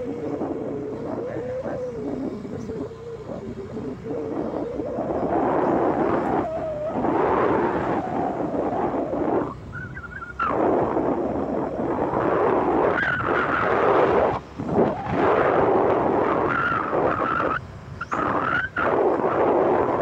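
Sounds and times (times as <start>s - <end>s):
faint wavering whine: 0.0s - 20.0s
motorbike running: 0.0s - 20.0s
wind rushing over microphone: 0.0s - 20.0s.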